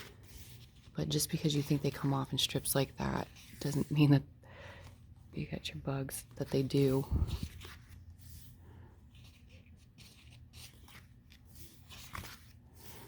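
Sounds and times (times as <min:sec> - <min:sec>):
paper pages rustling: 0:00.0 - 0:04.1, 0:06.2 - 0:13.0.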